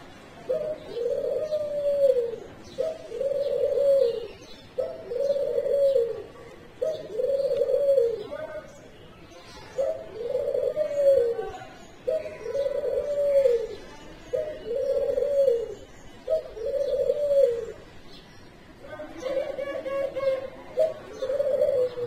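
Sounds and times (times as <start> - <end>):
doves cooing: 0.4 - 8.4, 9.7 - 17.8, 19.2 - 22.0.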